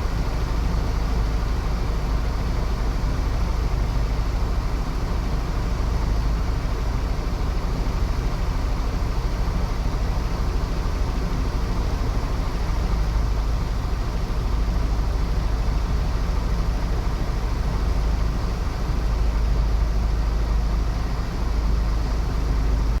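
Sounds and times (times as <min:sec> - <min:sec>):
heavy vehicle engine rumble: 0:00.0 - 0:23.0.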